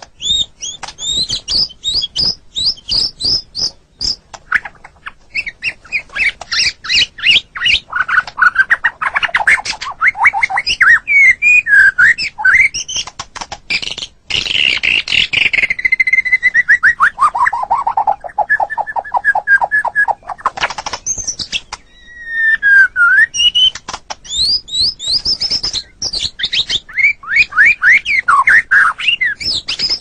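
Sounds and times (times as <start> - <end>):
bird singing whistled song: 0.2 - 13.1, 13.7 - 30.0.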